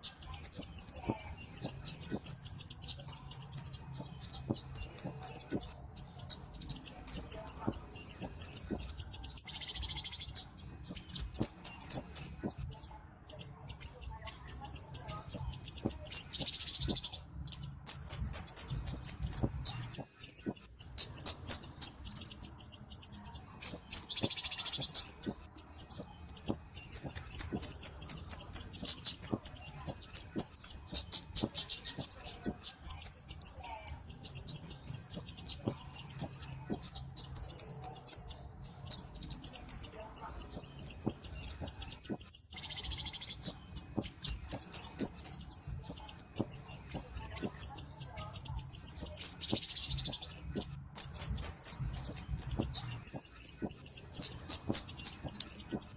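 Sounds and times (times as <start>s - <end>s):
bird calling with rapid ticking notes: 0.0s - 55.9s.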